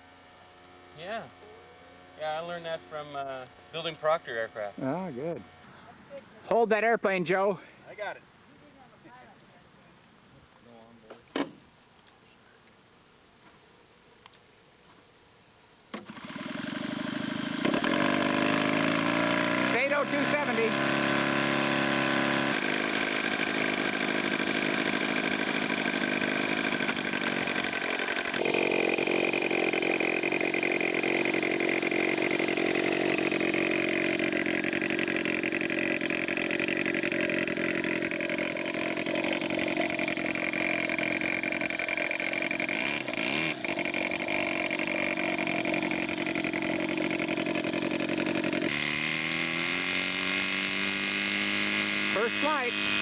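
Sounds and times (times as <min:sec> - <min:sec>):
model aircraft engine running: 0:00.0 - 0:06.0, 0:16.0 - 0:53.0.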